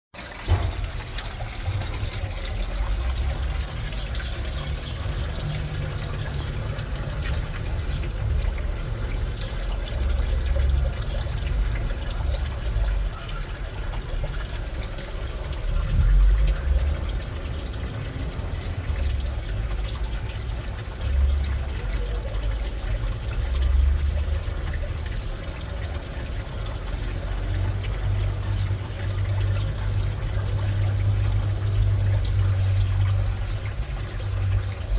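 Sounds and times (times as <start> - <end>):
water pouring into pond tub: 0.1 - 34.9
low uneven rumble: 0.3 - 34.9.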